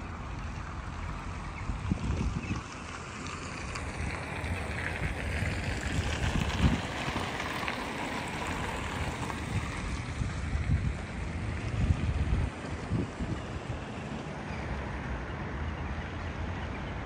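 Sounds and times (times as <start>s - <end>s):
wind gusting on microphone: 0.6s - 15.2s.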